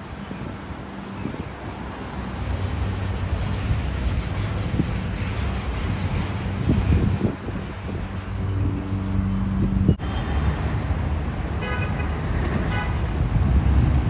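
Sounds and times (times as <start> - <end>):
passing motor vehicles: 0.0 - 14.0.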